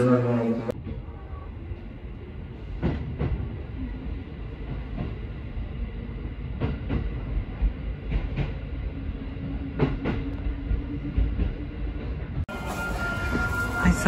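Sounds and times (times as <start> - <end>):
train running gear rumble: 0.7 - 14.0.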